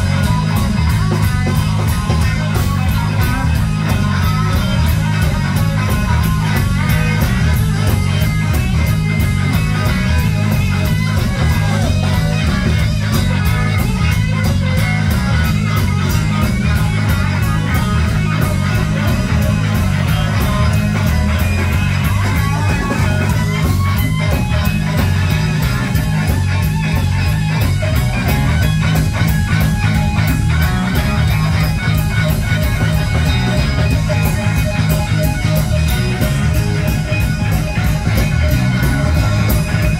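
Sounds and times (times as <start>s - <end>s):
drum kit beat: 0.0s - 39.9s
electric bass guitar: 0.0s - 39.9s
electric guitar: 0.0s - 39.9s.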